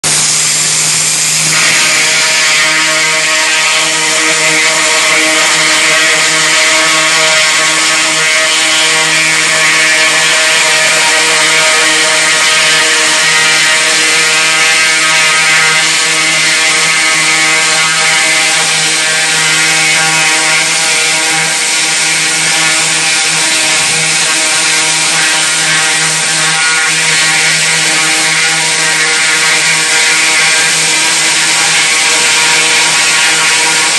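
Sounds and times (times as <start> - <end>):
pump droning: 0.0 - 33.9
water jet hissing: 0.0 - 33.9.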